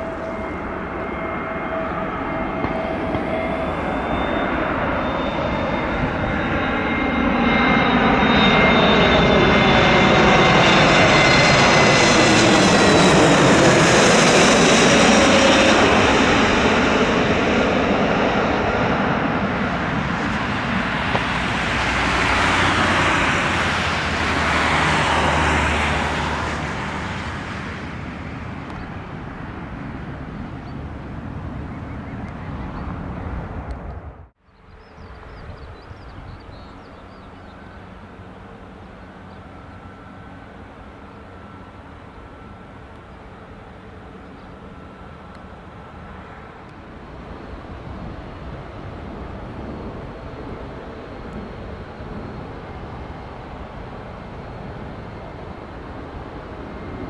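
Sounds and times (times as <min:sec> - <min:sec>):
jet airliner passing overhead: 0:00.0 - 0:57.0
jet engine noise after landing: 0:00.0 - 0:57.0.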